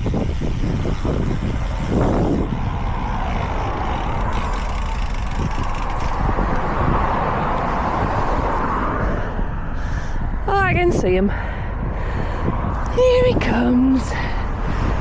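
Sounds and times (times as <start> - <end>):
vehicle passing on road: 0.0 - 12.9
steady low rumble: 0.0 - 15.0.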